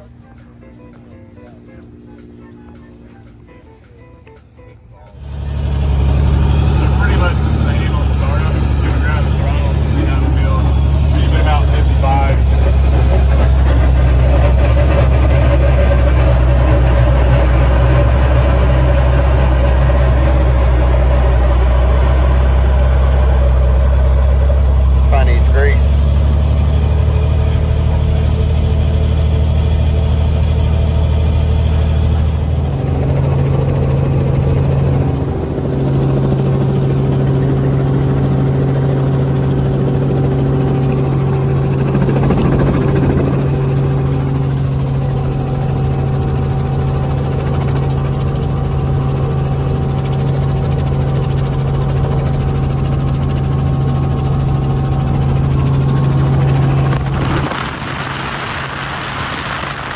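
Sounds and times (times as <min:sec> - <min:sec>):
helicopter engine and rotor running: 0:00.0 - 0:59.9.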